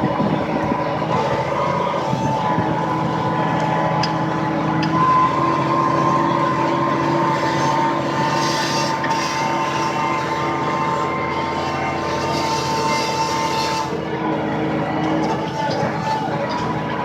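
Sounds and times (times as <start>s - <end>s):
steady high whine: 0.0s - 17.0s
tractor engine drone: 0.0s - 17.0s.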